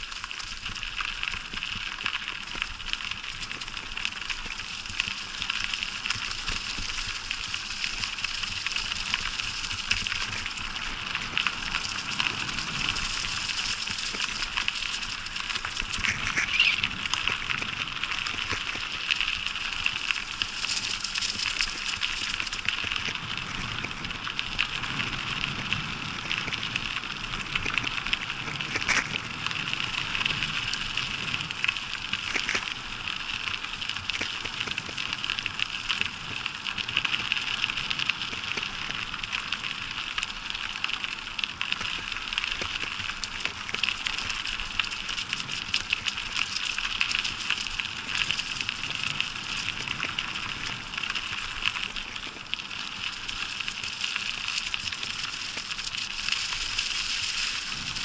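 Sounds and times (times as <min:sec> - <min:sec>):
bicycle tyres rolling on gravel: 0:00.0 - 0:58.0
tyres crackling over dry leaves: 0:00.0 - 0:58.0.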